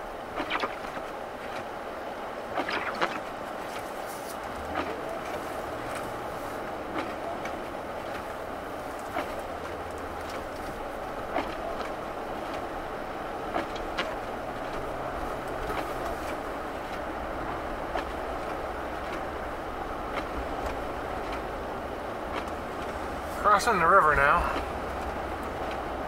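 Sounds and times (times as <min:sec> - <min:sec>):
car engine low hum: 0:00.0 - 0:26.0
tyre and road noise on snow: 0:00.0 - 0:26.0.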